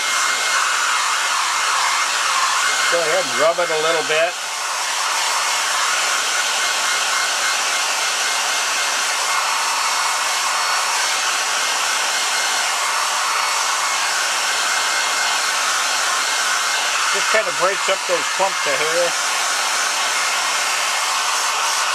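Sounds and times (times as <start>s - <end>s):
hair dryer blowing: 0.0s - 21.9s.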